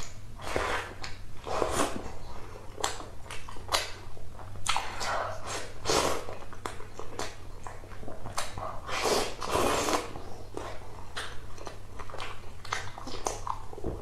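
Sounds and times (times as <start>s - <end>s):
wet chewing and mouth smacking: 0.0s - 14.0s.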